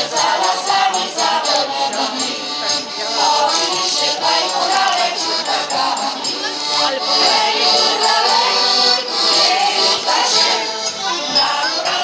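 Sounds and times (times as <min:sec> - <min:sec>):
rattling percussion: 0:00.0 - 0:08.5, 0:09.3 - 0:12.0
group singing folk song: 0:00.0 - 0:12.0.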